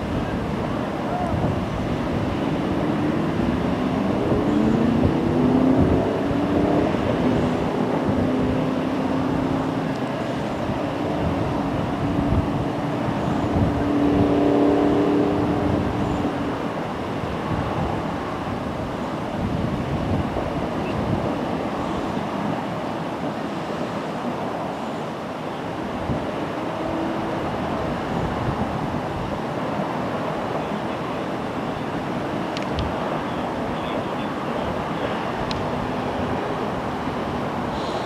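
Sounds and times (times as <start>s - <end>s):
water rushing from hydrant: 0.0s - 38.0s.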